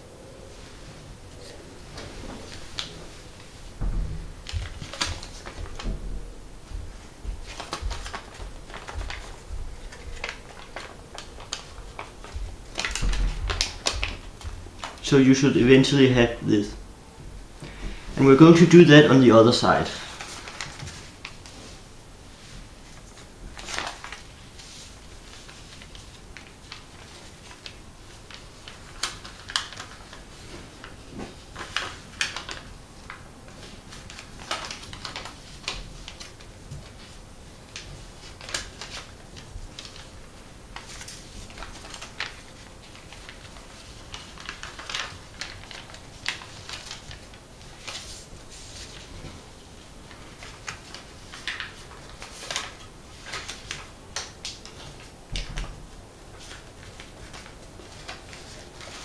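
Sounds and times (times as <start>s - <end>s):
paper folding and crackling: 1.1s - 16.7s, 17.7s - 59.0s.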